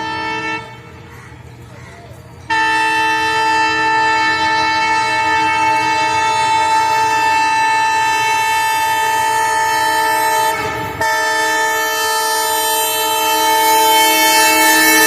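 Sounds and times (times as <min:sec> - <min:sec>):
locomotive air horn blast: 0:00.0 - 0:01.1, 0:02.5 - 0:15.0
low rumble of passing train: 0:00.0 - 0:15.0.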